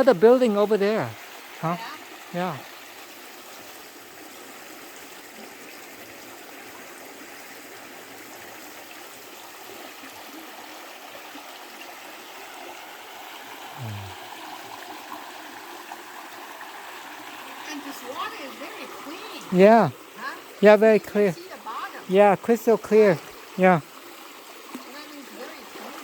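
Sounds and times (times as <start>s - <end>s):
creek water running over rocks: 0.0s - 26.0s.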